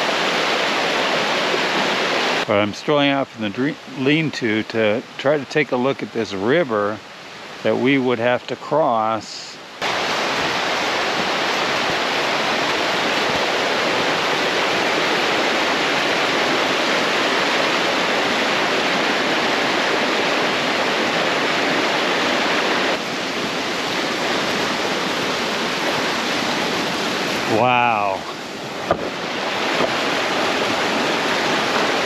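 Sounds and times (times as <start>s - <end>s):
mountain brook rushing: 0.0s - 32.0s.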